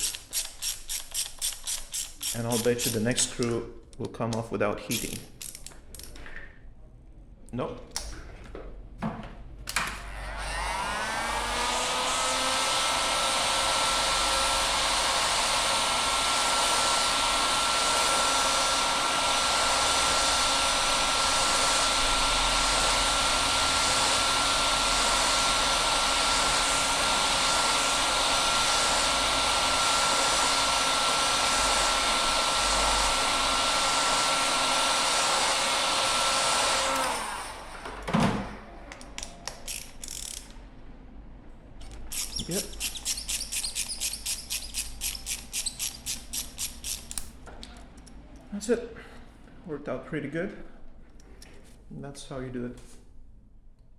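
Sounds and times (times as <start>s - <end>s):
heat gun fan whirring: 0.0s - 6.1s, 9.7s - 40.7s, 41.8s - 48.2s.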